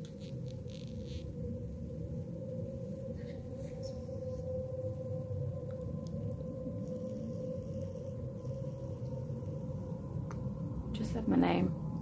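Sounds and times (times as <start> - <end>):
low rumbling noise: 0.0 - 12.0
steady hum: 0.0 - 12.0.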